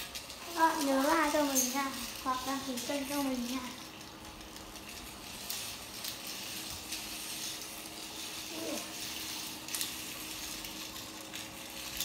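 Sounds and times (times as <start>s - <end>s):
toy snake rasping on tile: 0.0s - 12.0s.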